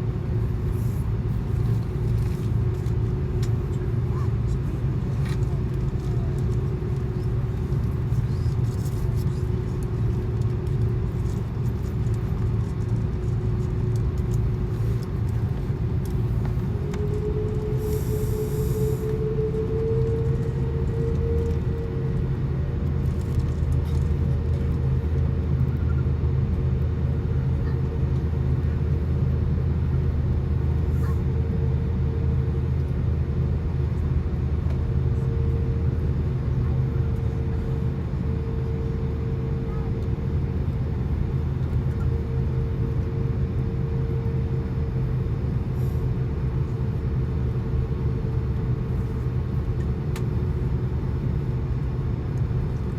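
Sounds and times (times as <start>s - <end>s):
jet engines rumbling in cabin: 0.0s - 52.9s.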